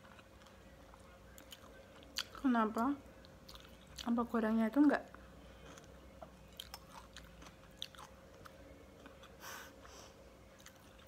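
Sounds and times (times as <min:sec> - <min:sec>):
faint chewing: 0:00.0 - 0:04.2, 0:05.1 - 0:11.0.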